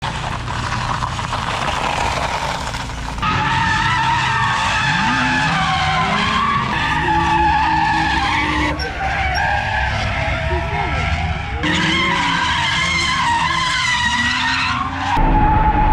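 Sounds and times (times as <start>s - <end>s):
car engine revving: 0.0s - 15.9s
tyres squealing: 0.8s - 15.5s.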